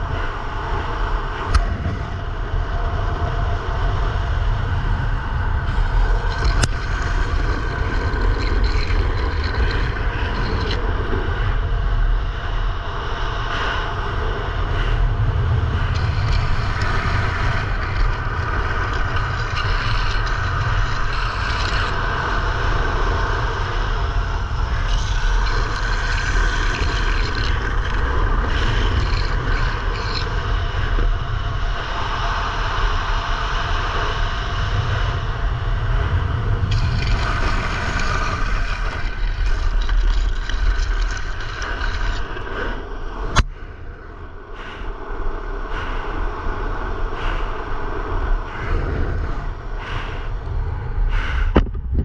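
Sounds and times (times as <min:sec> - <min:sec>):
skateboard wheels roaring on asphalt: 0:00.0 - 0:52.0
wind buffeting microphone: 0:00.0 - 0:52.0.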